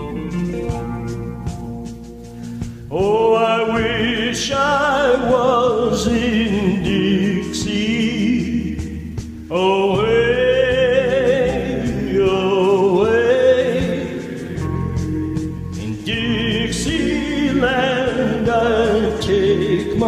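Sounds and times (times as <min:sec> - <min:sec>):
sustained backing accompaniment: 0:00.0 - 0:20.0
high singing voice with vibrato: 0:02.9 - 0:20.0.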